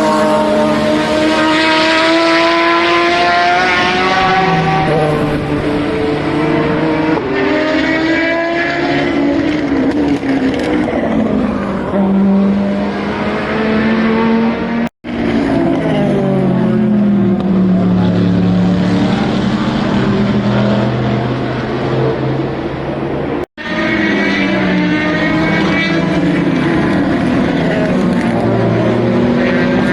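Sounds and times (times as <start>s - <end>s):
race cars passing at full speed: 0.0s - 29.9s.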